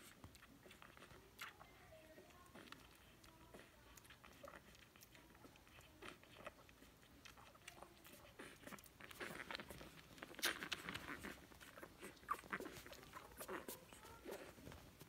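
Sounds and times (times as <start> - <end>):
puppies chewing: 0.0 - 15.0.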